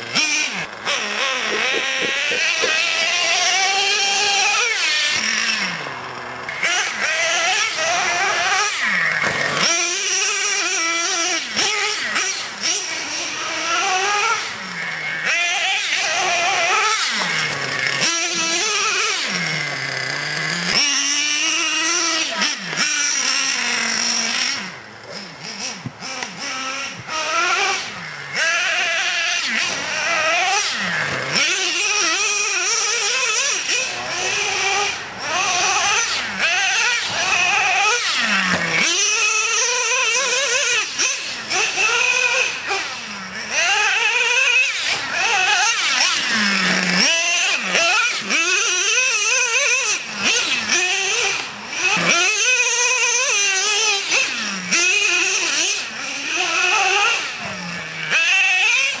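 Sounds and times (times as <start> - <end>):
small nitro engine revving: 0.0 - 59.0.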